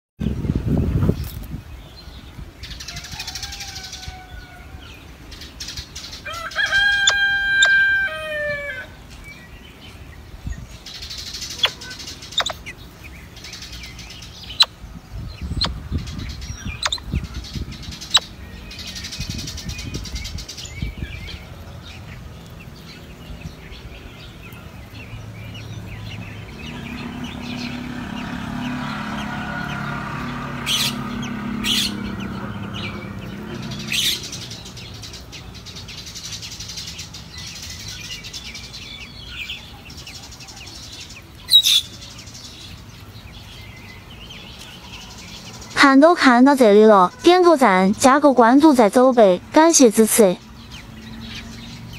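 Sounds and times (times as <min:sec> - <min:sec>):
birds chirping: 0:00.2 - 0:51.9.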